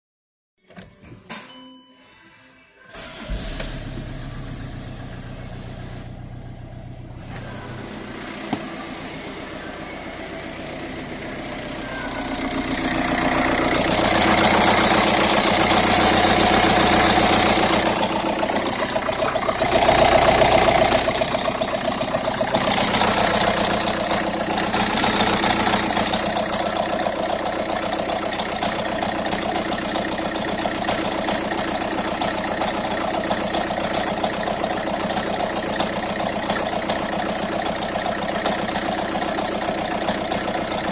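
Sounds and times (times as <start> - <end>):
diesel engine revving: 3.0 - 40.9.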